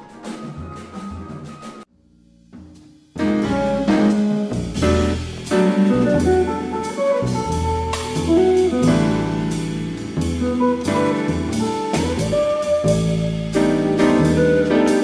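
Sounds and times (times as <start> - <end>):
drum kit with cymbals: 0.0 - 15.0
walking double bass: 2.3 - 15.0.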